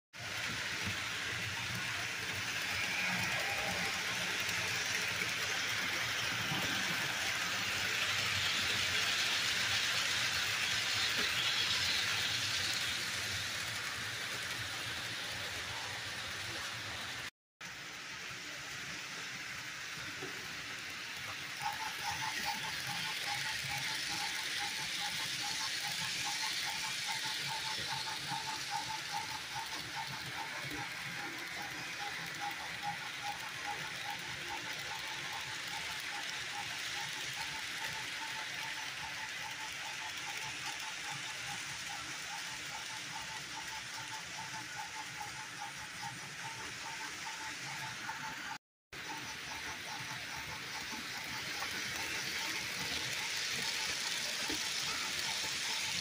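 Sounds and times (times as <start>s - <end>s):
model train motors whirring: 0.2s - 56.0s.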